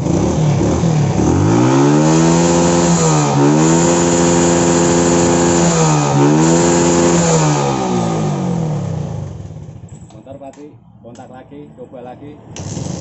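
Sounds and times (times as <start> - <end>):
motorcycle engine starting and revving: 0.0 - 10.1, 12.5 - 13.0.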